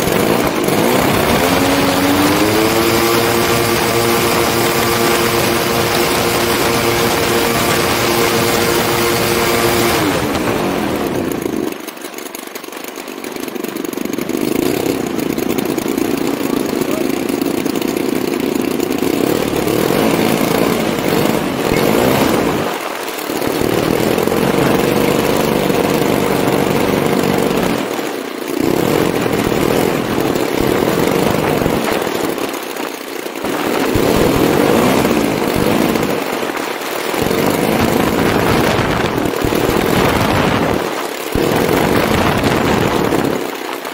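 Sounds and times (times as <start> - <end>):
model aircraft engines running: 0.0 - 43.9.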